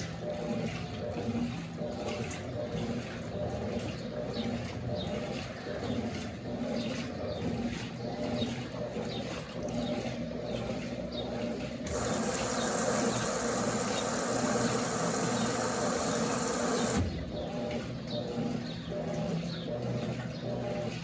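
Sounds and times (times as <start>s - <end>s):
water gushing into washing machine: 0.0s - 21.0s.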